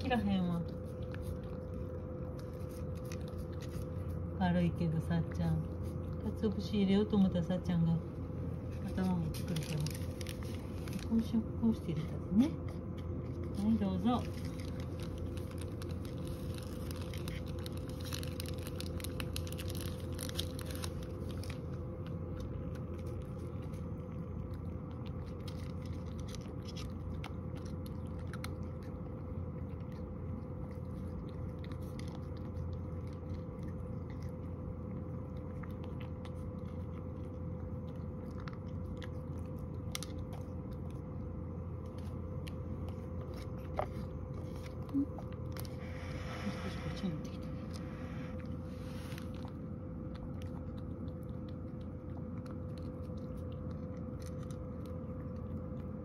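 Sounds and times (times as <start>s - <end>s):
cat chewing and licking: 0.0s - 56.0s
low hum: 0.0s - 56.0s.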